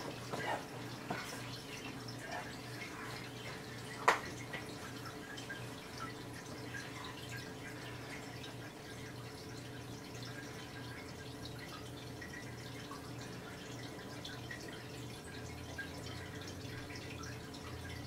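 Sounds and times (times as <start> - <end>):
aquarium water trickling and dripping: 0.0 - 18.0
low steady hum: 0.0 - 18.0.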